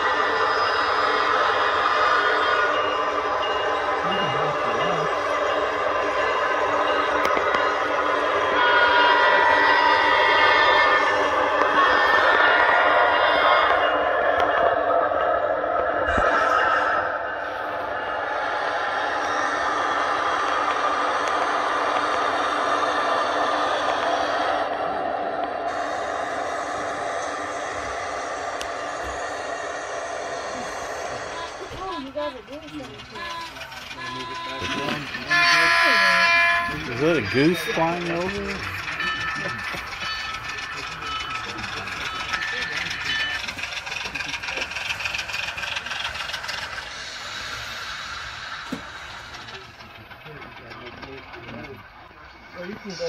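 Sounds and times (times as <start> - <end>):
model train running: 0.0 - 53.0
wheels rattling on track: 0.0 - 53.0.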